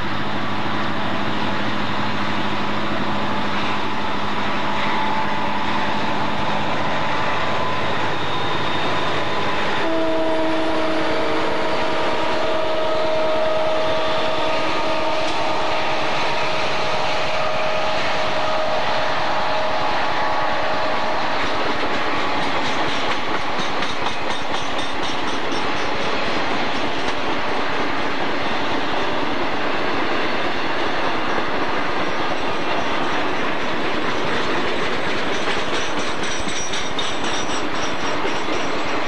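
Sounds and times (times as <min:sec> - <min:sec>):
clickety-clack of train trucks: 0:00.0 - 0:39.0
train wheels rumbling on rails: 0:00.0 - 0:39.0.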